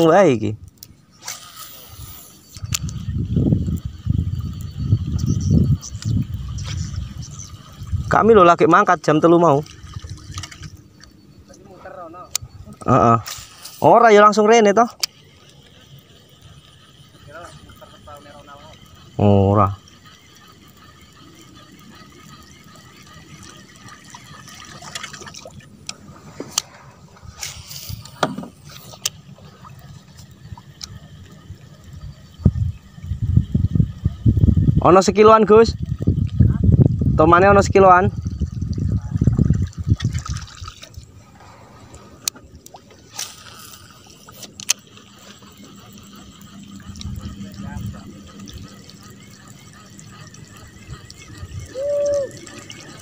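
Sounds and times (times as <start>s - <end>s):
water trickling and lapping: 0.0s - 53.0s.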